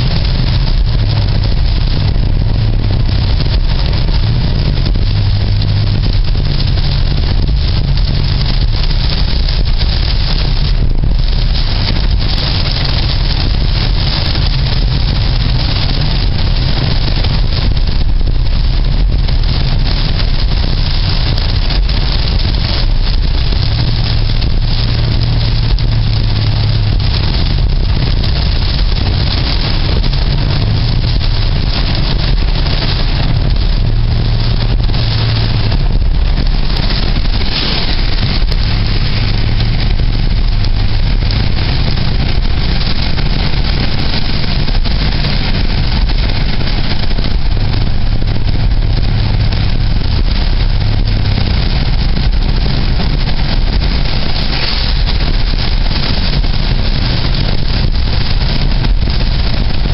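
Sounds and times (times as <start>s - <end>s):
car engine and road drone: 0.0s - 59.9s
wind noise: 0.0s - 59.9s.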